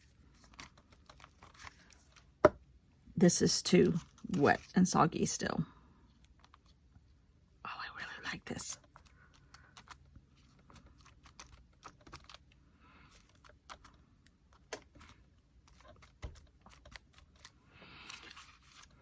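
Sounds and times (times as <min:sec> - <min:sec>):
soft paper rustles: 0:00.0 - 0:02.4, 0:03.7 - 0:05.3, 0:06.0 - 0:07.2, 0:08.0 - 0:19.0.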